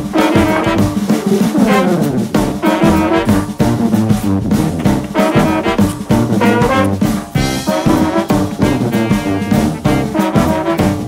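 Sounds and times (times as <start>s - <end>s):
brass-led jazzy music: 0.0s - 11.0s.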